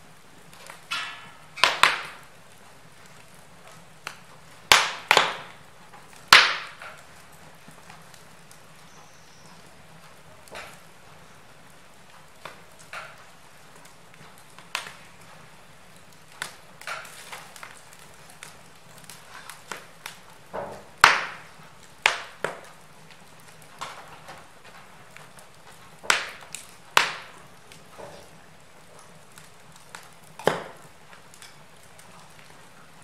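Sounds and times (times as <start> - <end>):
low steady hiss of fire: 0.0 - 33.0
wood fire crackling: 0.0 - 33.0.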